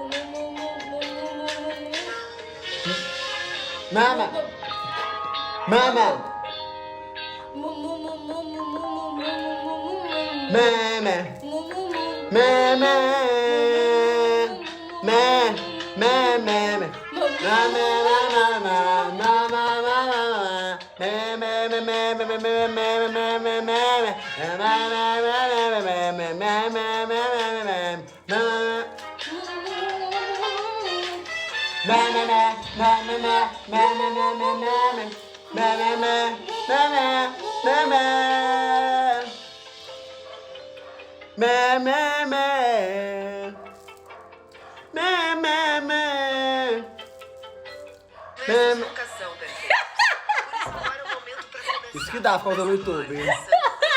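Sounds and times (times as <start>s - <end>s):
music with high singing voice: 0.0s - 53.9s.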